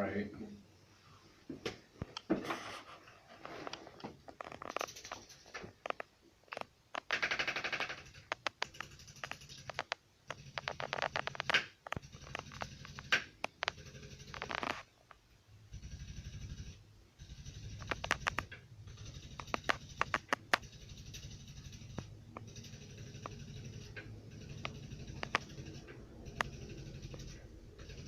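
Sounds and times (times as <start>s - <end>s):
rapid repeated tapping: 4.4s - 14.9s, 15.7s - 28.0s.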